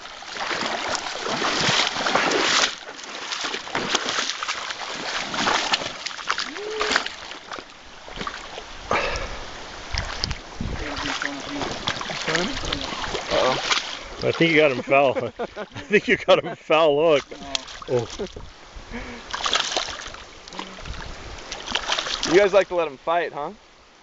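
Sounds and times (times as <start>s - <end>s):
fish splashing in water: 0.0s - 14.9s, 17.2s - 18.3s, 19.2s - 22.5s.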